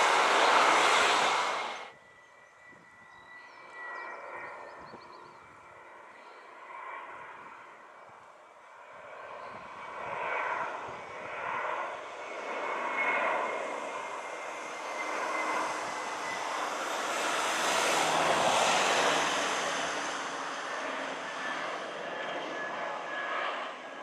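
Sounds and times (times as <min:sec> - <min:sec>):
jet airliner engines: 0:00.0 - 0:24.0.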